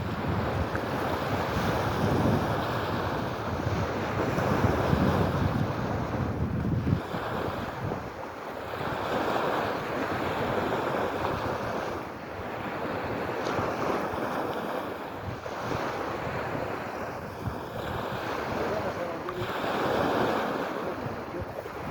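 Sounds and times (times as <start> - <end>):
sea waves washing ashore: 0.0 - 21.9
wind rumbling on microphone: 0.0 - 21.9.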